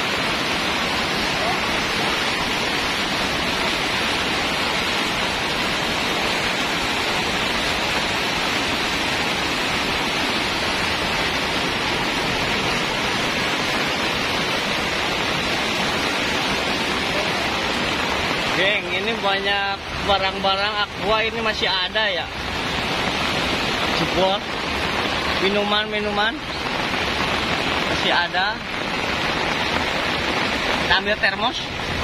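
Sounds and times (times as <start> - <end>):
rushing water: 0.0 - 32.0.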